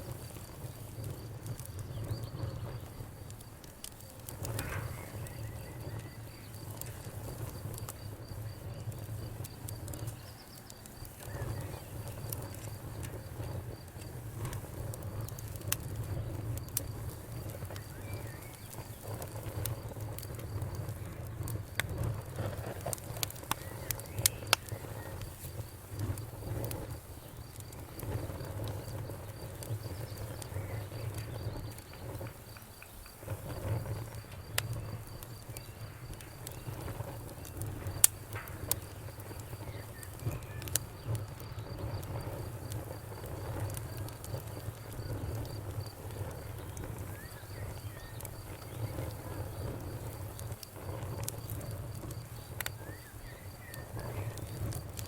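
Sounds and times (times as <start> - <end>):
low rumble of flame: 0.0 - 55.0
wood fire crackling and popping: 0.0 - 55.0.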